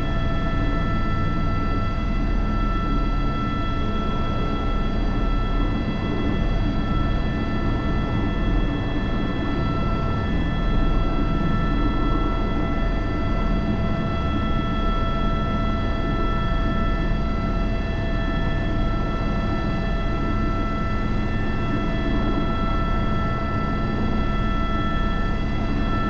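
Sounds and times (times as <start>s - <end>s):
helicopter rotor rumble: 0.0s - 26.0s
helicopter turbine whine: 0.0s - 26.0s.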